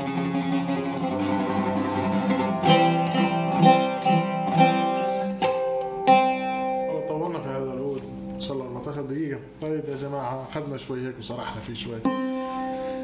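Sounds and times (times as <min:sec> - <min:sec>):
oud played with plectrum: 0:00.0 - 0:09.4, 0:11.7 - 0:13.0.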